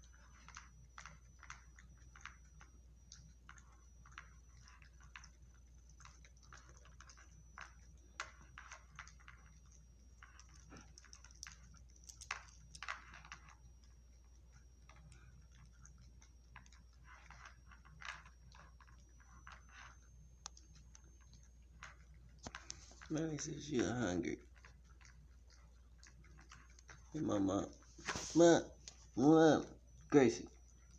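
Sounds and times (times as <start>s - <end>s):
dog chewing crunchy food: 0.0s - 30.9s.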